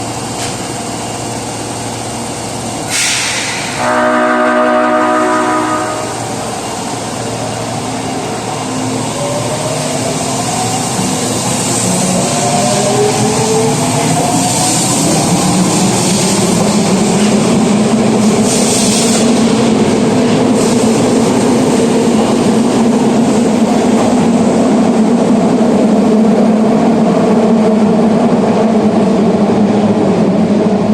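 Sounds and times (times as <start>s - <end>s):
subway train rumbling: 0.0s - 30.9s.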